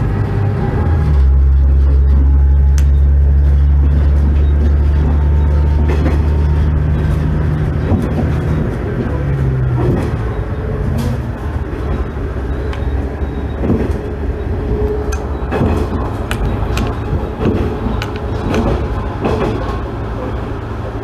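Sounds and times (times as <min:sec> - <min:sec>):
low drone: 0:00.0 - 0:21.0
railcar diesel engine running: 0:00.0 - 0:21.0.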